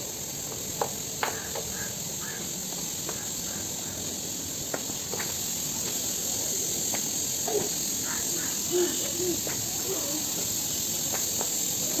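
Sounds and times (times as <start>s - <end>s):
sandal footsteps on pavement: 0.0s - 12.0s
steady hiss: 0.0s - 12.0s.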